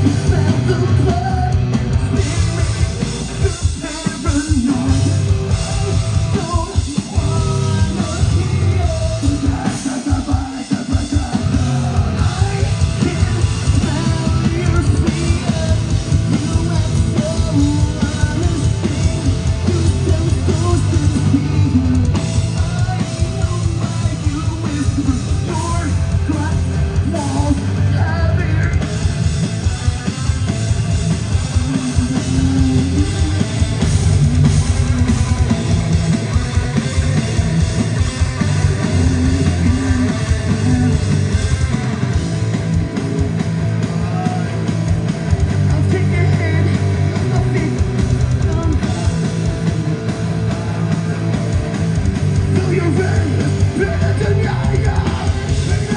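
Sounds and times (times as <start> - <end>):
person singing: 0.0 - 29.0, 31.4 - 42.2, 43.6 - 55.9
rock band playing live: 0.0 - 55.9.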